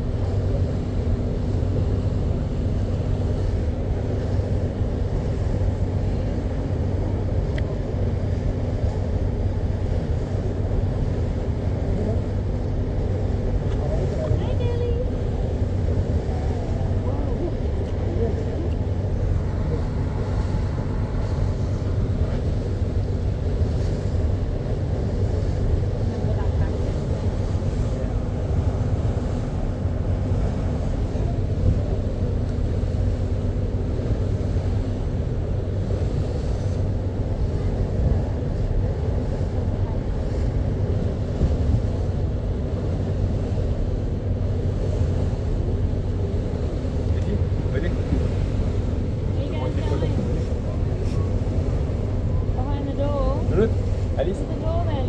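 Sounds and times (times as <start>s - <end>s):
boat engines droning: 0.0s - 55.0s.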